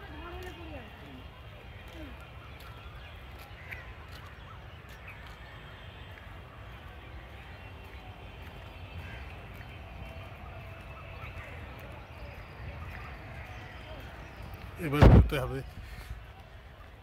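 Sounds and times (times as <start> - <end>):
footsteps on paved path: 0.0 - 17.0.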